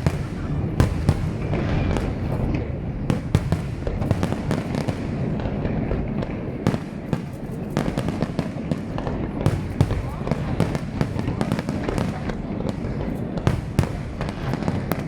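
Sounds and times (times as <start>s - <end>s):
firework bangs: 0.0s - 15.0s
rumble and crackle of fireworks: 0.0s - 15.0s.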